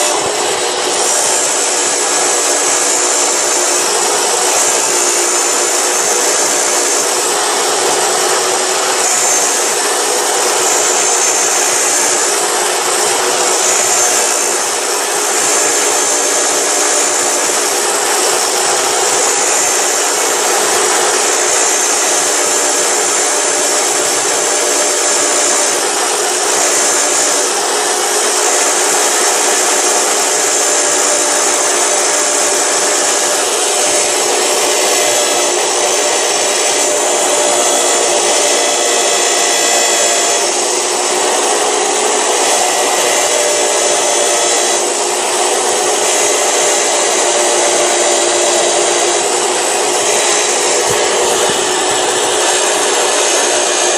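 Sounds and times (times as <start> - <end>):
power tool cutting wood: 0.0 - 53.9.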